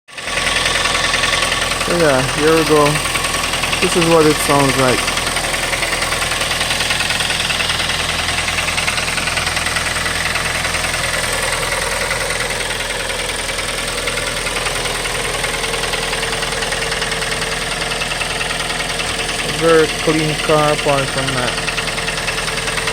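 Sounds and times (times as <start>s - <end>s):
car engine running: 0.1s - 22.9s
fast even engine ticking: 0.1s - 22.9s.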